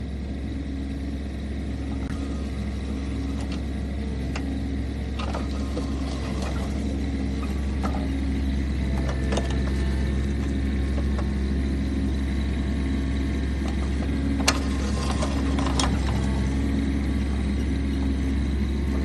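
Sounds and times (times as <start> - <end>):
diesel excavator engine idling: 0.0 - 19.0.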